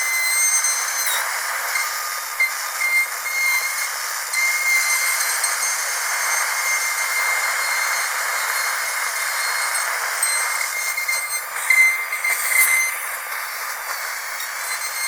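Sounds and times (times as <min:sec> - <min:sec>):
dental drill whining: 0:00.0 - 0:15.0.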